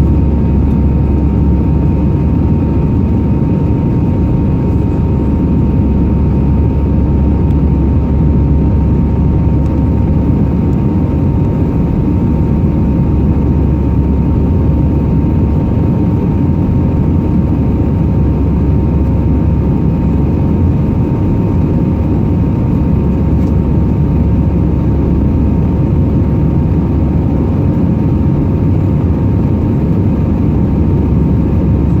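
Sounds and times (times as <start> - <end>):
jet engine and airflow rumble: 0.0 - 32.0.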